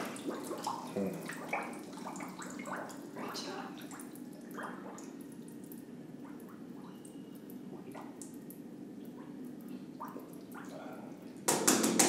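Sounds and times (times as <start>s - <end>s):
water drips and splashes: 0.0s - 11.5s.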